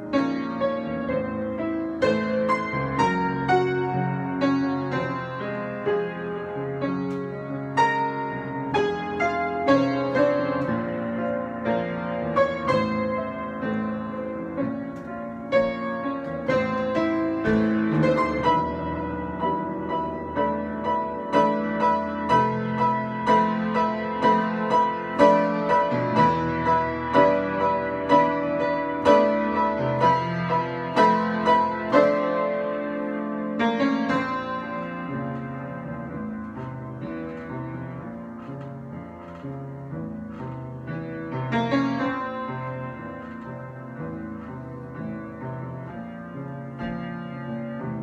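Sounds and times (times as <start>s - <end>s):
solo piano playing: 0.0s - 48.0s.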